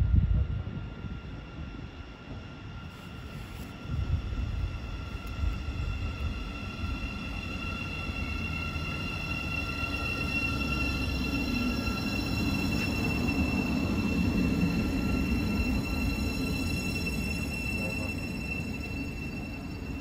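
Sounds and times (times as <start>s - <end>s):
train wheel rumble: 0.0s - 20.0s
high-pitched brake squeal: 2.8s - 20.0s.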